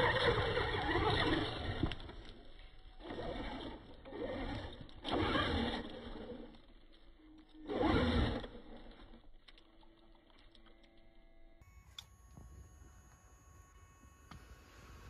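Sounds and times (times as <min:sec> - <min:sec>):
rc car electric motor whining: 0:00.0 - 0:09.3, 0:10.6 - 0:15.0.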